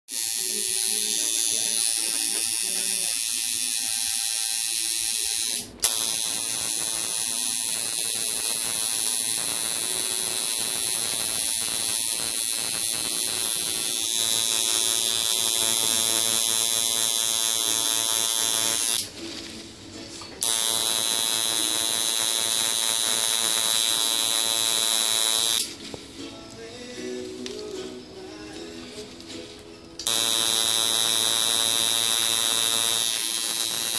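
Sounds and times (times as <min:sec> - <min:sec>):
tattoo machine buzzing: 0:00.1 - 0:19.1, 0:20.4 - 0:25.8, 0:30.0 - 0:33.9
tattoo machine click: 0:00.2 - 0:19.1, 0:20.4 - 0:25.7, 0:30.0 - 0:33.9.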